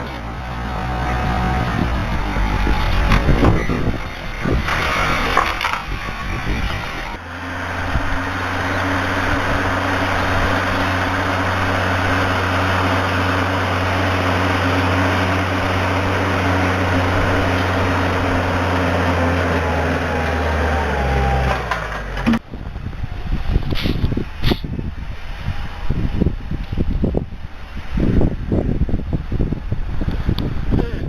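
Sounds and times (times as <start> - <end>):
large engine running under load: 0.0 - 30.8.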